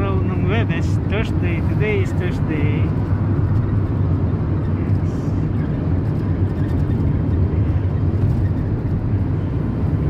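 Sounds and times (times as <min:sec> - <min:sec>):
vehicle road and engine rumble: 0:00.0 - 0:10.0.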